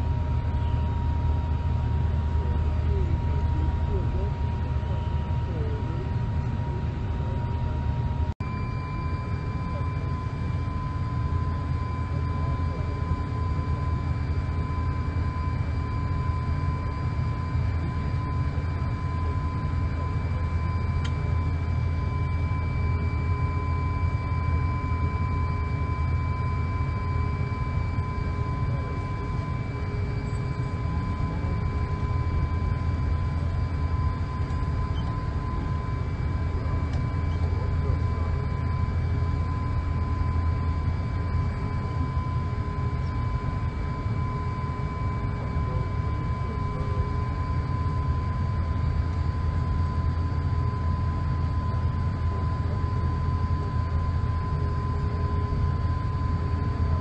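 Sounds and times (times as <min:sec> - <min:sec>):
airliner cabin rumble: 0:00.0 - 0:54.8
jet engine whine: 0:00.0 - 0:57.0.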